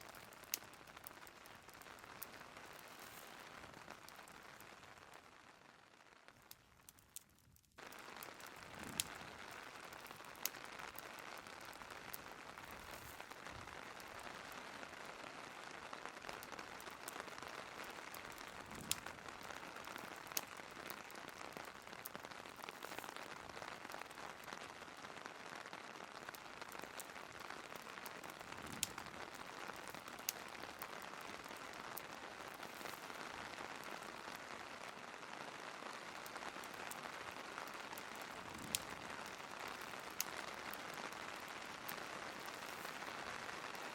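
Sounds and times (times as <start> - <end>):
log fire crackling and popping: 0.0 - 43.9
steady rain falling: 0.0 - 43.9.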